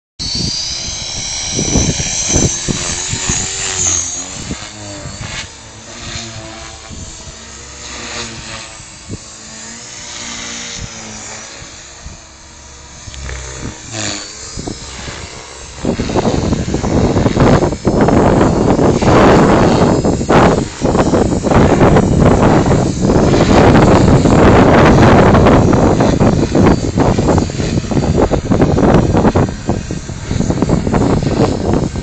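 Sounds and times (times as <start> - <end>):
rc helicopter rotor whine: 0.2 - 32.0
wind buffeting microphone: 0.2 - 32.0.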